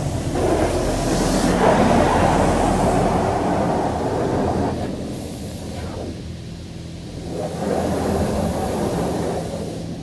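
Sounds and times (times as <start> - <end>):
water spray on car: 0.0 - 10.0.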